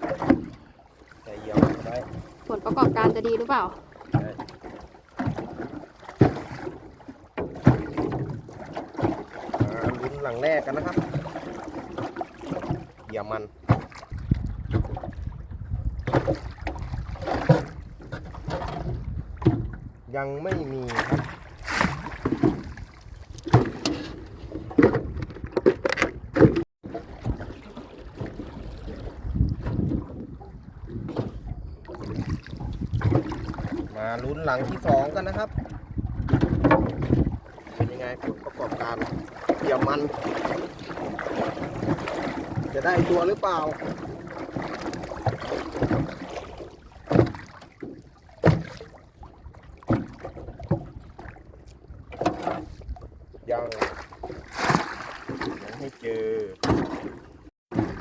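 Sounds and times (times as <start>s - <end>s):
knocks on small boat: 0.0s - 0.6s, 1.4s - 15.3s, 15.9s - 27.6s, 30.9s - 49.0s, 49.8s - 51.4s, 52.1s - 55.7s, 56.6s - 58.0s
water splashing: 0.0s - 19.8s, 20.4s - 58.0s
wind: 0.0s - 58.0s.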